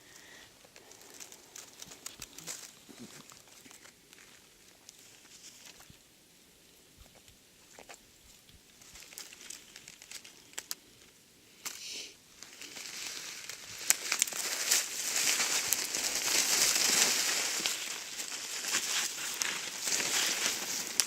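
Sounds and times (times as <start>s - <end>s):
rustling and crackling: 0.0s - 6.0s, 7.0s - 11.8s, 12.4s - 21.0s.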